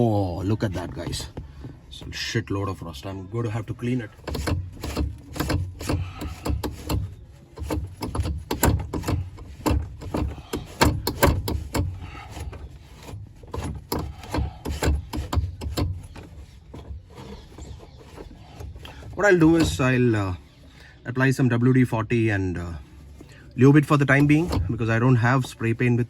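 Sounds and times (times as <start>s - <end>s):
scraping rusty metal by hand: 0.0s - 26.0s.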